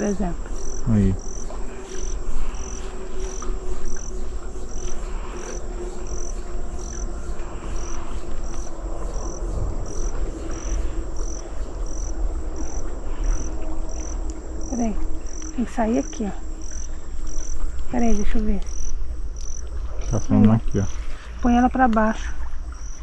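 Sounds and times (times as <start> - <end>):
steady low rumble: 0.0 - 22.8
cricket chirping: 0.0 - 23.0.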